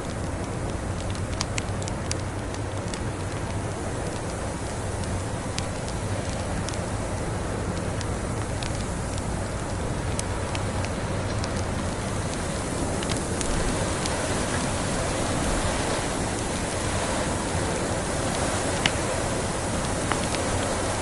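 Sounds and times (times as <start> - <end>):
fireplace crackling and popping: 0.0 - 21.0
rushing blizzard wind: 0.0 - 21.0.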